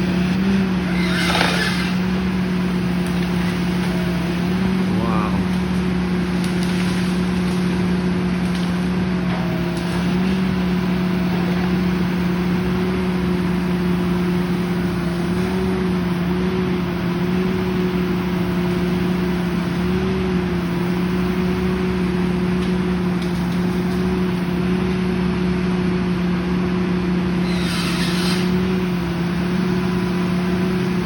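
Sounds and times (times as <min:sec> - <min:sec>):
tree-trimming machine engine running: 0:00.0 - 0:31.0.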